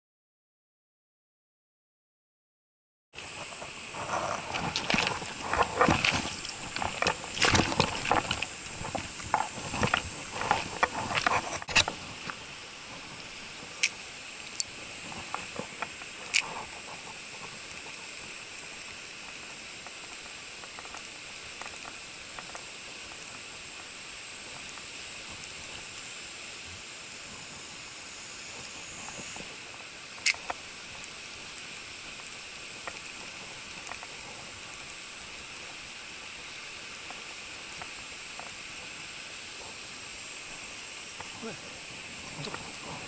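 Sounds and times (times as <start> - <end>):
stream running over stones: 3.2 - 43.0.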